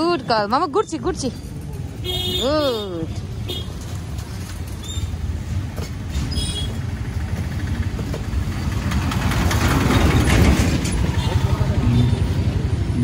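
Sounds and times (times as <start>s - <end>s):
rickshaw rumble and rattle: 0.0s - 13.0s
street traffic: 0.0s - 13.0s.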